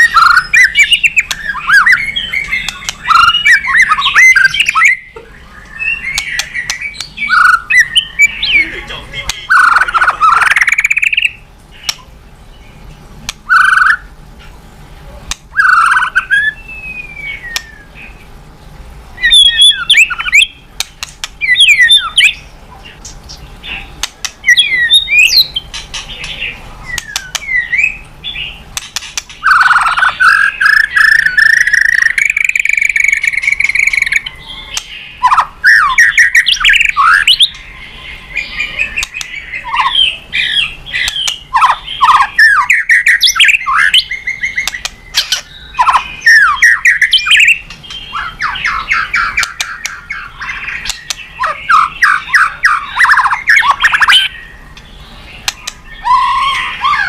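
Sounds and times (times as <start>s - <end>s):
songbird singing whistled song: 0.0s - 14.1s, 15.5s - 18.3s, 19.2s - 57.0s.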